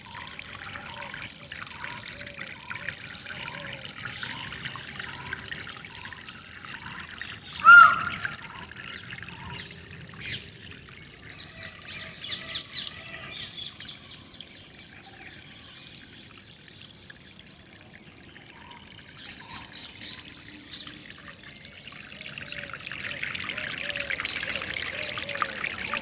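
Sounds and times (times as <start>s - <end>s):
water trickling and pouring: 0.0s - 26.0s.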